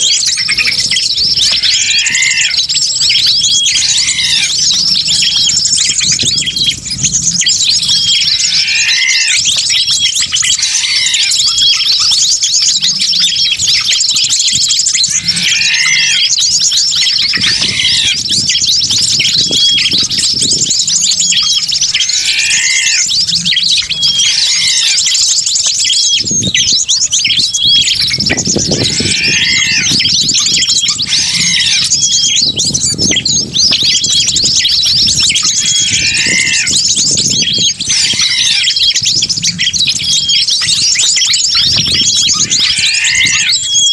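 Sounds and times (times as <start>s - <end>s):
small birds chirping: 0.0s - 43.9s
swooping bird call: 0.0s - 43.9s.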